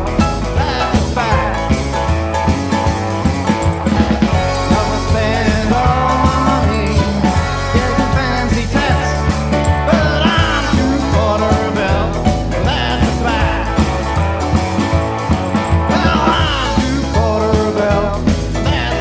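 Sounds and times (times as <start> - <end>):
rock and roll band song: 0.0 - 19.0.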